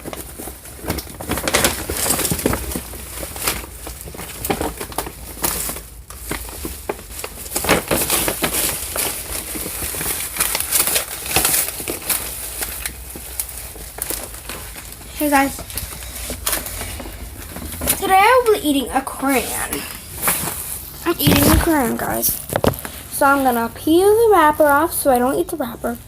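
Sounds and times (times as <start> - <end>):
rustling handling noise: 0.0 - 26.0.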